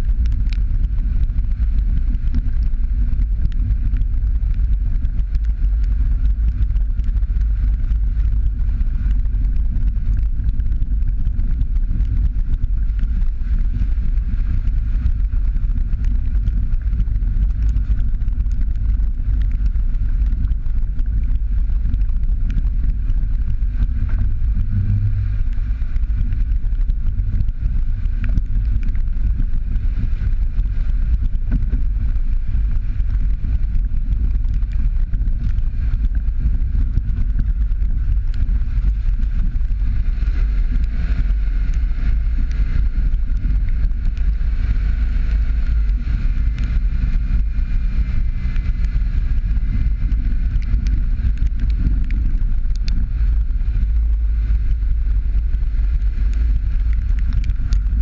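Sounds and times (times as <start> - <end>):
engine and tyres rumbling: 0.0 - 58.0.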